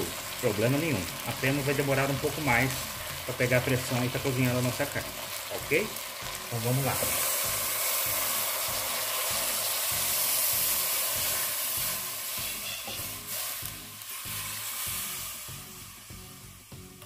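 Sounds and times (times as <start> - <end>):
water sizzling in a hot pan: 0.0 - 17.0.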